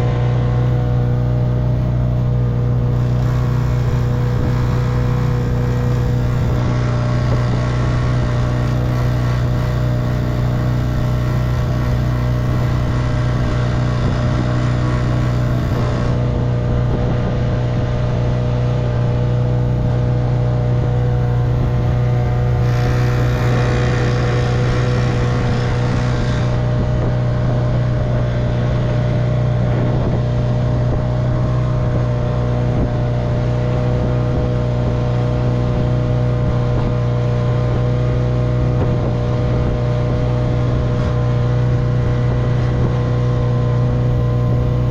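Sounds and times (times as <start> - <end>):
outboard motor running: 0.0 - 44.9.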